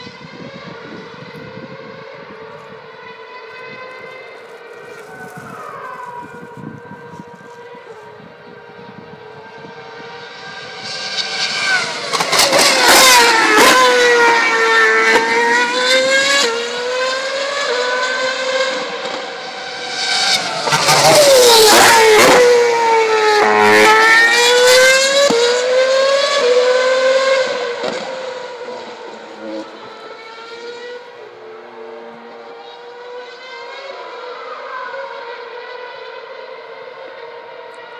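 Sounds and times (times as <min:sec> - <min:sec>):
racing car engines at high revs: 0:00.0 - 0:37.9.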